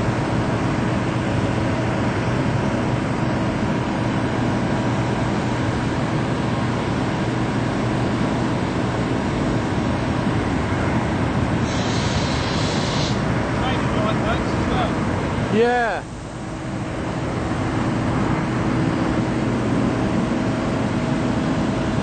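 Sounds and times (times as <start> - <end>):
mechanical drone with low hum: 0.0 - 22.0.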